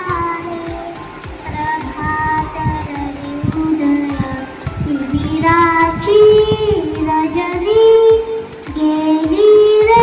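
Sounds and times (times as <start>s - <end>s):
backing track with drum beat: 0.0s - 10.0s
girl singing into microphone: 0.0s - 10.0s.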